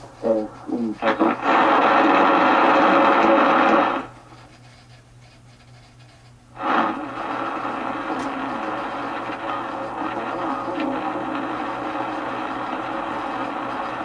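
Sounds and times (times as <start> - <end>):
radio band noise: 0.0 - 4.7, 6.3 - 14.0
steady radio signal: 0.0 - 4.7, 6.4 - 14.0.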